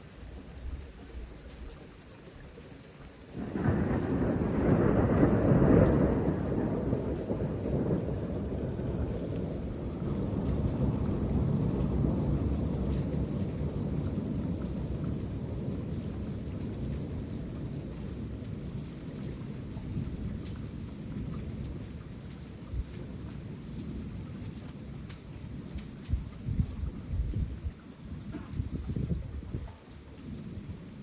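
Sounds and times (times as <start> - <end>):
steady rain: 0.0 - 31.0
thunder rumbling: 3.3 - 31.0.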